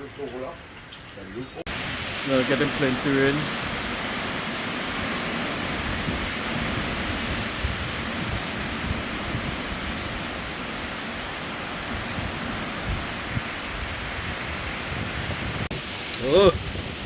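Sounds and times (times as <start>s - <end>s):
rain: 0.0s - 17.0s
gusting wind: 0.6s - 17.0s.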